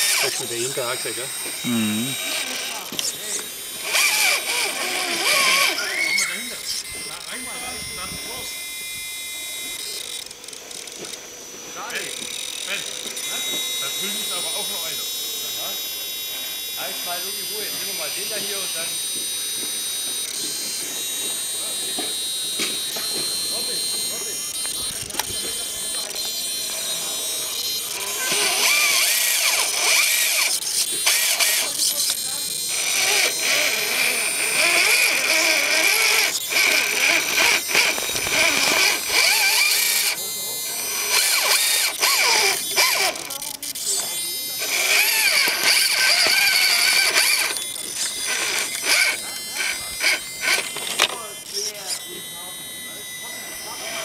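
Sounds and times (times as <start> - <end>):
electric motor and gears whining: 0.0 - 54.0.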